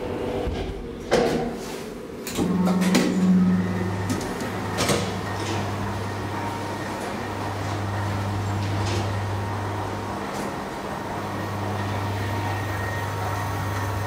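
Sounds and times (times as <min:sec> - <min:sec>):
elevator pump motor humming: 0:02.2 - 0:14.0.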